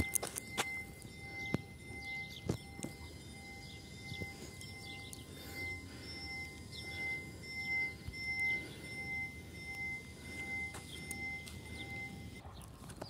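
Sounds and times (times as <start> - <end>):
level crossing bell ringing: 0.0 - 12.4.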